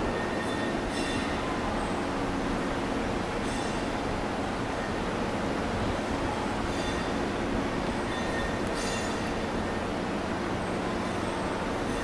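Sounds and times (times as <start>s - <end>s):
electric train running rumble: 0.0s - 12.0s.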